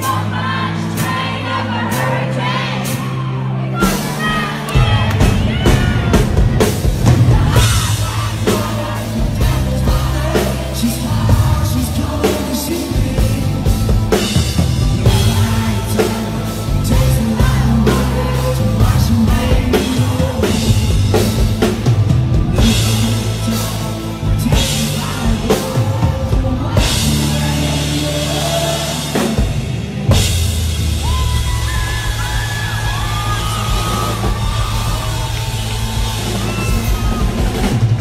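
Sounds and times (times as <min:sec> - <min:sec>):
man singing lead vocal: 0:00.0 - 0:03.2, 0:04.0 - 0:30.2, 0:32.6 - 0:38.0
country rock band playing: 0:00.0 - 0:38.0.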